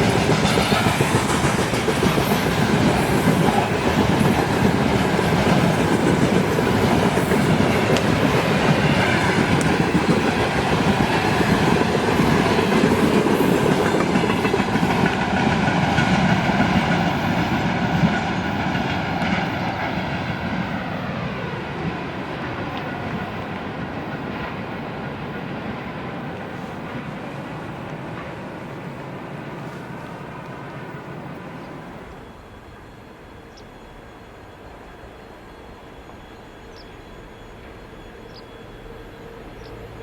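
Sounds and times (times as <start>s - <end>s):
train wheels clattering on rails: 0.0s - 40.0s.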